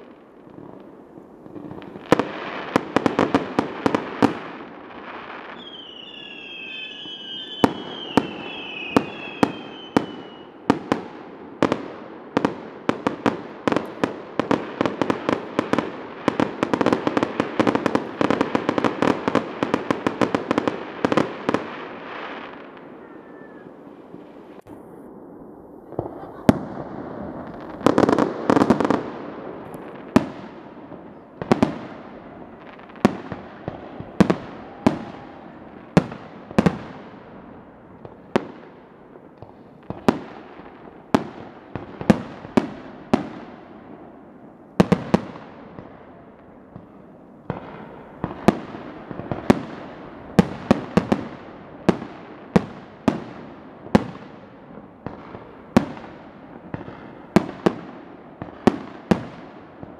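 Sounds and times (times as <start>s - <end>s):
fireworks bursting with echoes: 0.0s - 59.9s.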